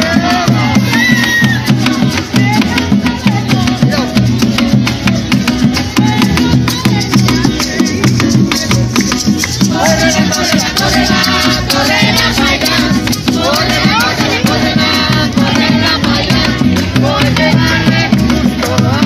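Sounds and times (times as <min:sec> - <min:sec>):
hand drum beating: 0:00.0 - 0:19.0
maracas shaking: 0:00.0 - 0:19.0
people singing: 0:00.0 - 0:19.0.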